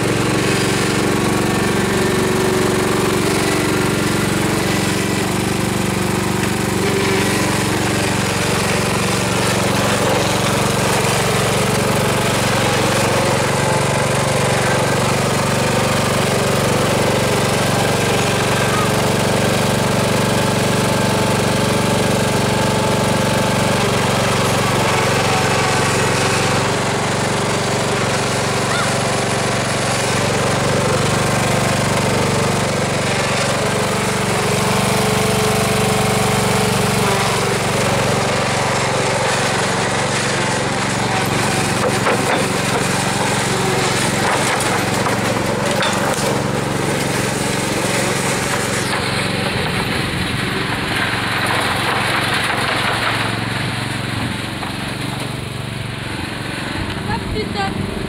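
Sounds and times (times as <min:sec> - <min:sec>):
riding lawn mower engine running: 0:00.0 - 0:58.0.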